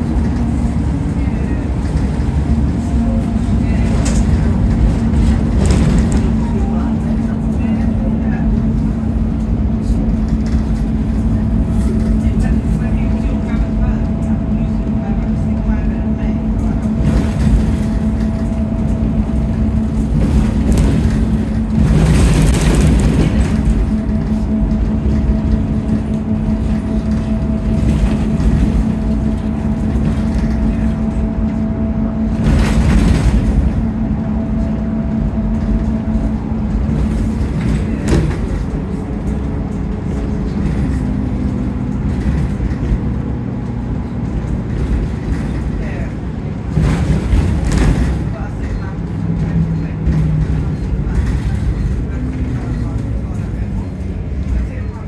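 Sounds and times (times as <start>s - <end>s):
bus engine hum with whine: 0.0s - 55.0s
road noise: 0.0s - 55.0s.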